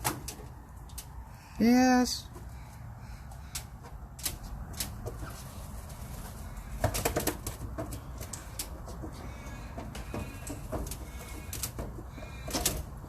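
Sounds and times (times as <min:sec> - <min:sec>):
rustling: 0:02.4 - 0:13.0.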